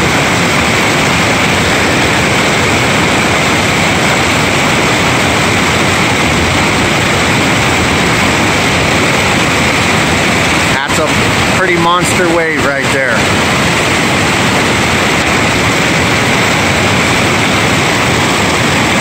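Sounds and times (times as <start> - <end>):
water rushing over boulders: 0.0 - 19.0.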